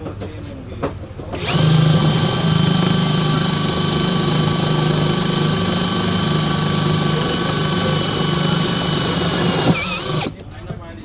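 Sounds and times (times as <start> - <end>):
pressure washer running: 1.4 - 10.4.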